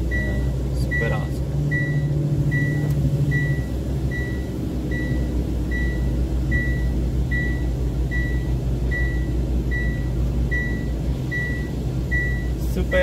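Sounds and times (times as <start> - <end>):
diesel truck engine running: 0.0 - 13.0
warning beeper short beeps: 0.1 - 12.6.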